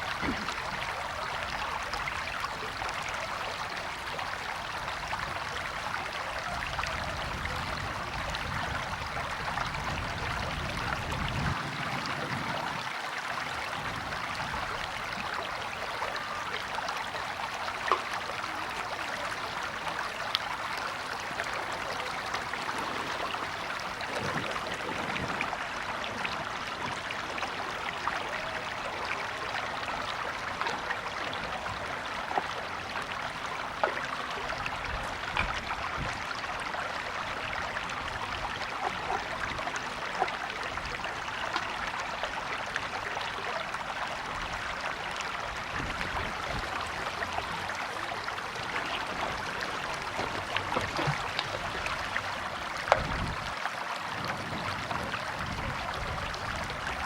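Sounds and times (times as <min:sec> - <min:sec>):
stream water running over rocks: 0:00.0 - 0:57.0
water splashes: 0:00.0 - 0:57.0.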